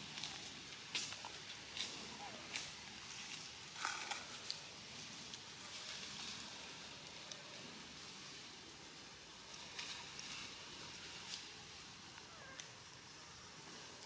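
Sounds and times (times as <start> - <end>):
forest ambience hiss: 0.0 - 14.0.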